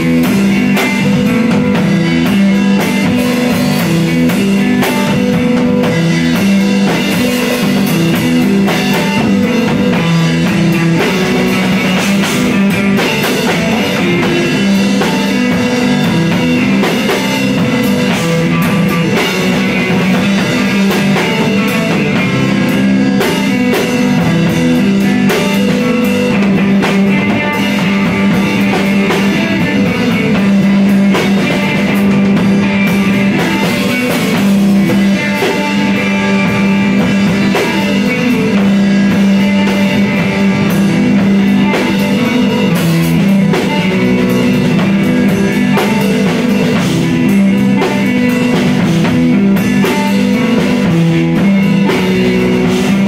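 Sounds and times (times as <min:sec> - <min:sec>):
drums and cymbals: 0:00.0 - 0:53.0
electric guitar: 0:00.0 - 0:53.0.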